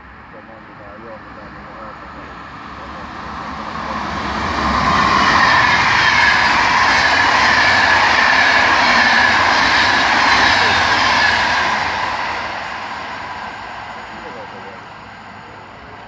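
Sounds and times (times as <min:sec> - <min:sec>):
high whine: 0:00.0 - 0:16.0
train passing close by: 0:00.0 - 0:16.0
wheel-on-rail noise: 0:00.0 - 0:16.0.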